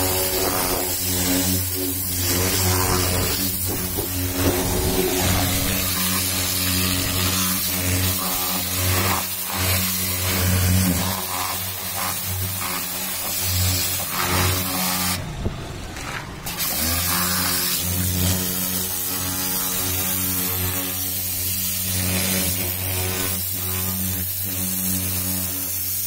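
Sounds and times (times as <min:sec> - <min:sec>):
pressure washer motor humming: 0:00.0 - 0:26.0.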